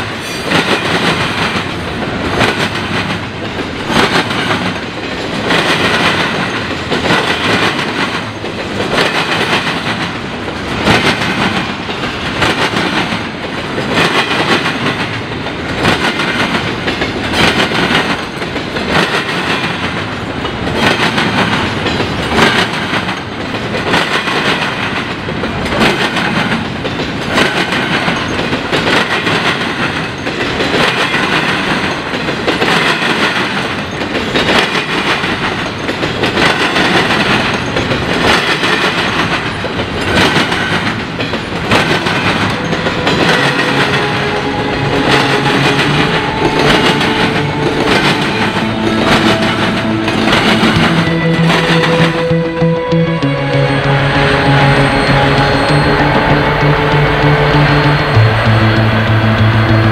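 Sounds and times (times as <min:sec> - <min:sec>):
train wheels banging over crossing: 0:00.0 - 0:52.2.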